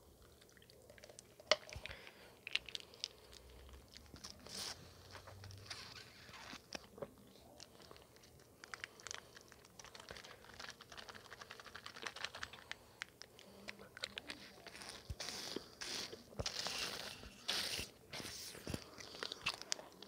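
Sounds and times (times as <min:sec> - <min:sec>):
drink-mix packet crinkling: 0:00.8 - 0:20.0.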